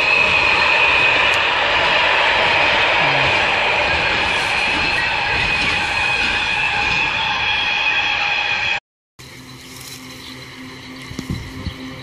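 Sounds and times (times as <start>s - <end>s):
electric locomotive humming: 0.0s - 12.0s.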